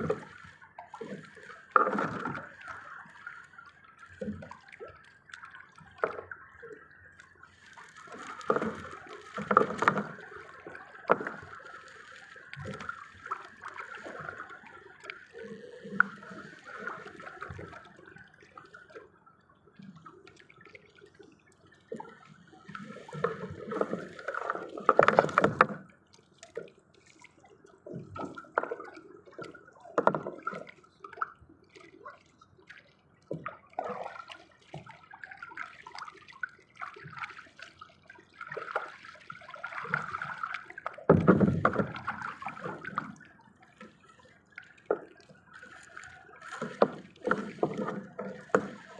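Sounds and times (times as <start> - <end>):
water splashing and sloshing: 0.0 - 48.9.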